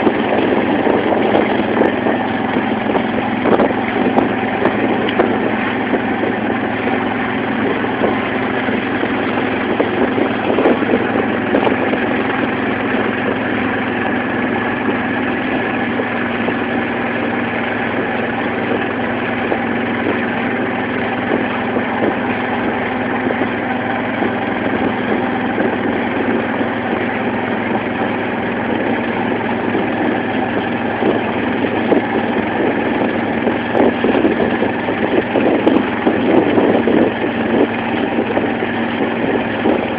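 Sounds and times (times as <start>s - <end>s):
boat engine droning: 0.0s - 39.9s
water splashing along hull: 0.0s - 39.9s.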